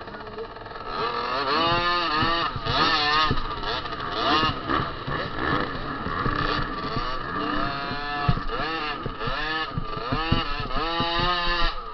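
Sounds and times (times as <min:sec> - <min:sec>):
two-stroke motocross engines revving: 0:00.0 - 0:11.9.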